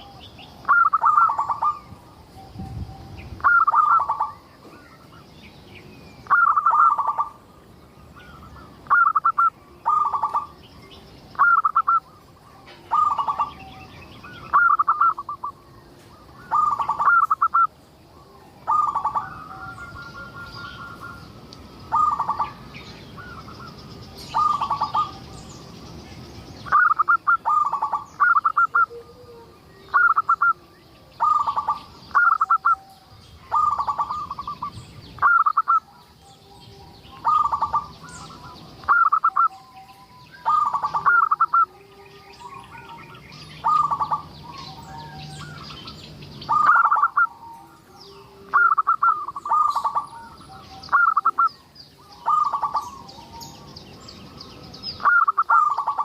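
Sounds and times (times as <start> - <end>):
dove cooing: 0.0 - 4.8, 6.2 - 7.5, 8.2 - 10.6, 11.3 - 25.5, 26.6 - 53.7, 54.9 - 56.0
faint high bird chirps: 0.0 - 56.0.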